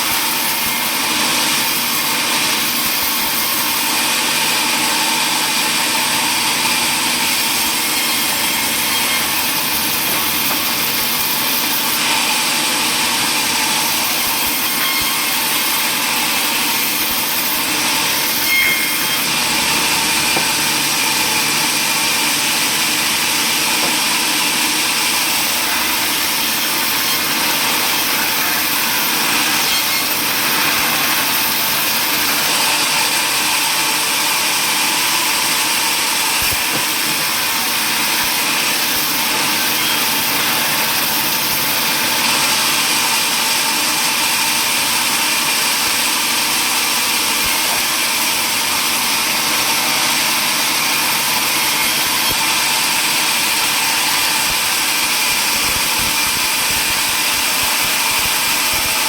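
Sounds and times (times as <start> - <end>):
power saw cutting wood: 0.0 - 59.0.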